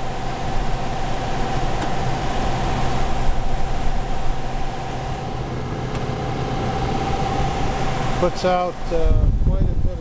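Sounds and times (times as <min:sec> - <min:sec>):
air conditioner blower rushing: 0:00.0 - 0:10.0
low hum: 0:00.0 - 0:10.0.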